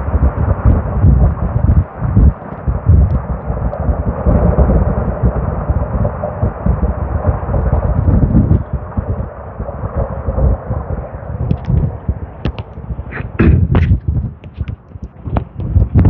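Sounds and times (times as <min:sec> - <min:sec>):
steady rushing noise: 0:00.0 - 0:16.0
wind buffeting microphone: 0:00.0 - 0:16.0.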